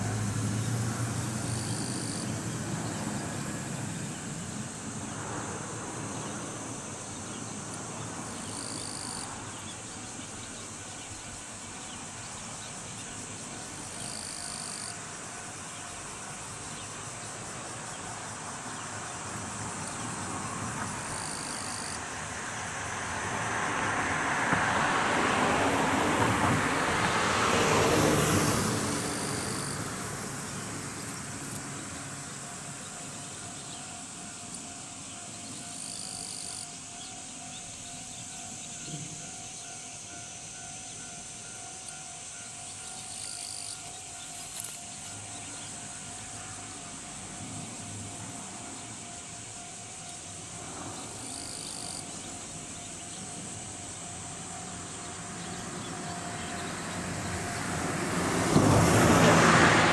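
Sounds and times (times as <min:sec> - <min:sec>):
broad rush of noise: 0:00.0 - 0:59.9
electric train approaching: 0:00.0 - 0:59.9.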